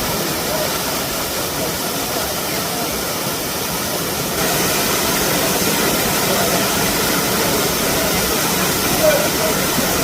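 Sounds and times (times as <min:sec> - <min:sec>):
waterfall water rushing: 0:00.0 - 0:10.0.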